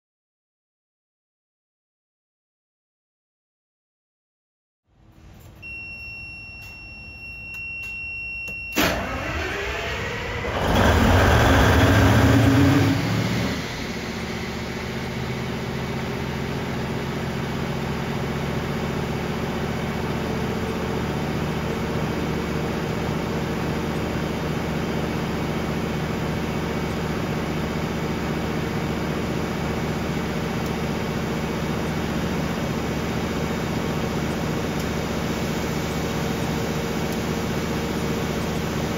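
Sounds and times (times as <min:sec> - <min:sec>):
diesel generator starting and running: 0:05.0 - 0:38.9.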